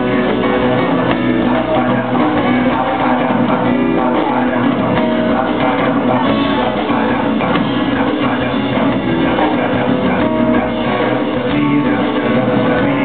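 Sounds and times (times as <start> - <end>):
acoustic guitar: 0.0 - 13.0
drums: 0.0 - 13.0.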